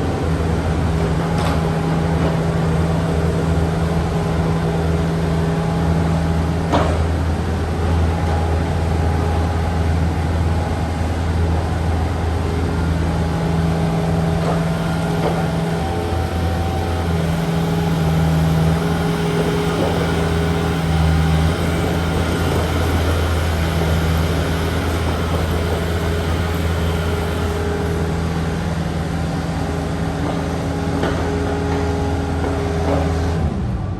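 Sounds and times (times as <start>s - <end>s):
excavator diesel engine working: 0.0s - 33.9s.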